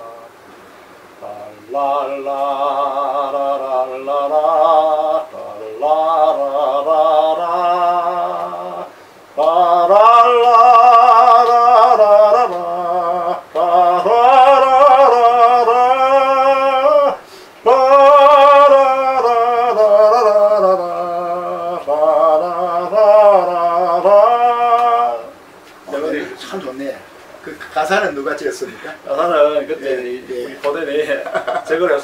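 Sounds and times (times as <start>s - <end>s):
man singing unaccompanied: 0.0s - 0.4s, 1.2s - 26.5s.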